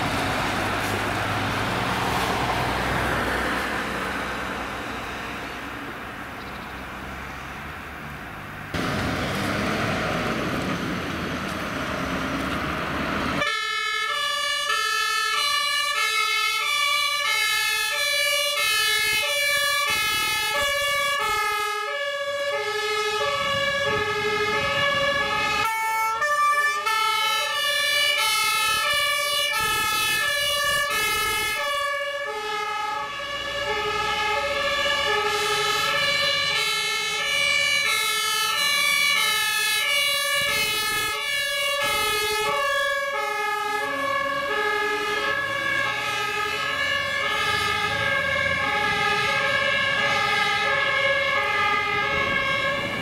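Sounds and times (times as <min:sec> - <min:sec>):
rushing vehicle noise: 0:00.0 - 0:53.0
two-tone fire engine sirens: 0:00.0 - 0:53.0.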